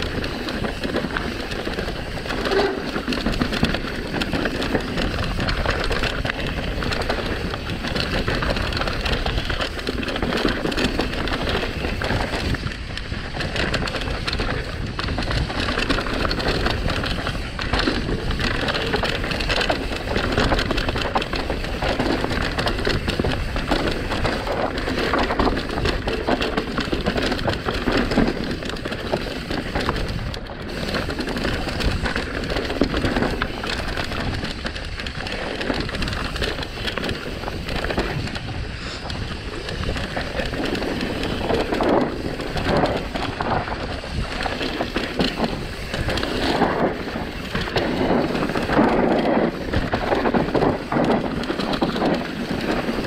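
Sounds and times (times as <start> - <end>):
bike rattling over bumps: 0.0 - 53.0
tyres crunching over gravel: 0.0 - 53.0.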